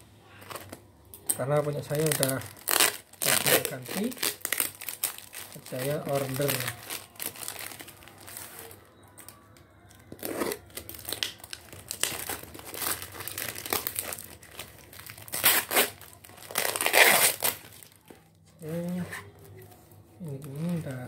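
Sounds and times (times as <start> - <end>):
plastic wrapping crinkling: 0.3 - 21.0.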